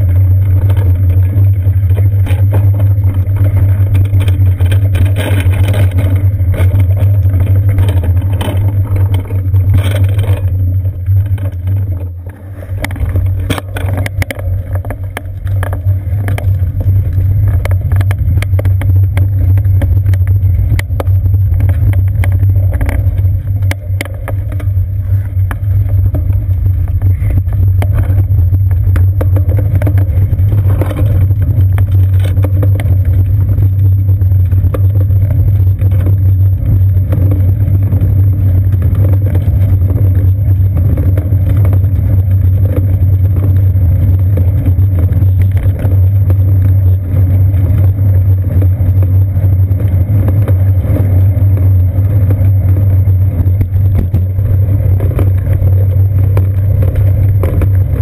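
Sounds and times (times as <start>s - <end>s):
bicycle road rumble: 0.0s - 58.0s
wind noise: 0.0s - 58.0s.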